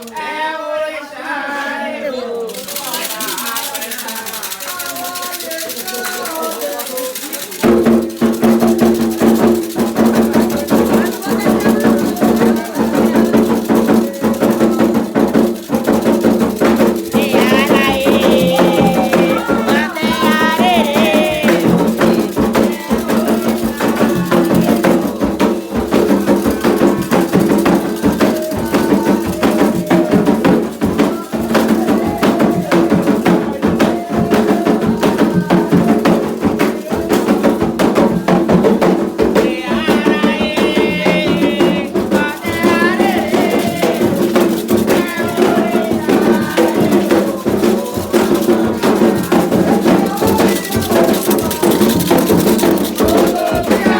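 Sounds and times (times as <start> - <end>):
percussion: 0.0 - 53.9
voices singing: 0.0 - 53.9
shaken rattles: 2.4 - 53.9.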